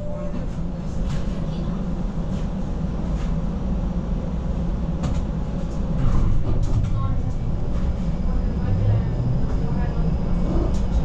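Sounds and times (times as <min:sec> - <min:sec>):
streetcar wheels rumbling on rail: 0:00.0 - 0:11.0.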